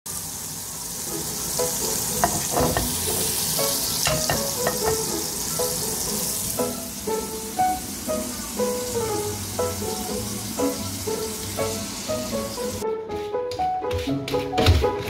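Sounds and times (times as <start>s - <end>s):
bread frying in oil sizzling: 0.1s - 12.8s.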